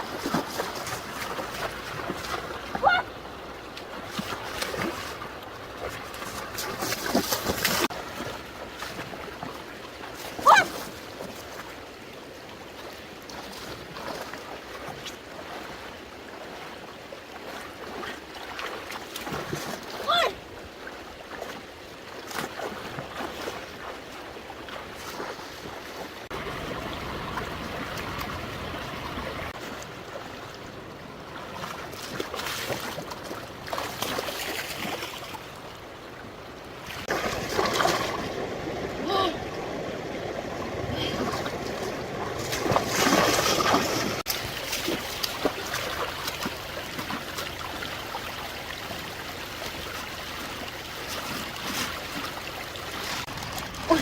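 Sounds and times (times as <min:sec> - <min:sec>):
water splashing: 0:00.0 - 0:11.8, 0:17.3 - 0:54.0
stream water trickling: 0:00.0 - 0:54.0.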